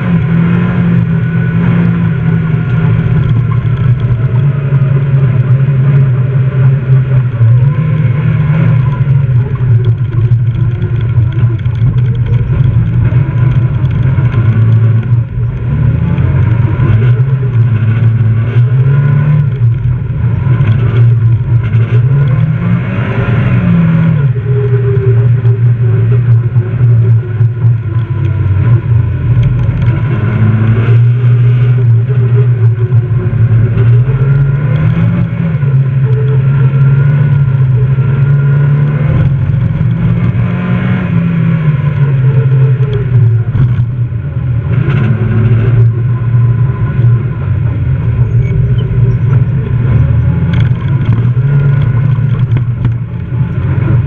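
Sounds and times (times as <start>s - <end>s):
rally car engine at high revs: 0.0s - 54.0s.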